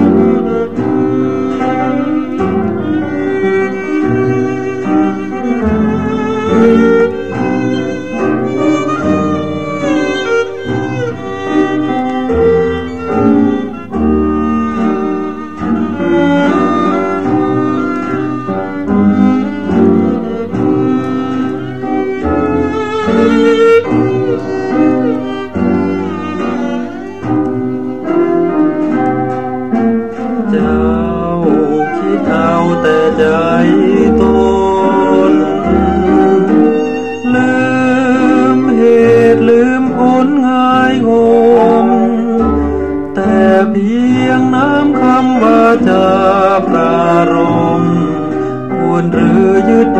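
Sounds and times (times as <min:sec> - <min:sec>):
bowed strings melody: 0:00.0 - 0:49.9.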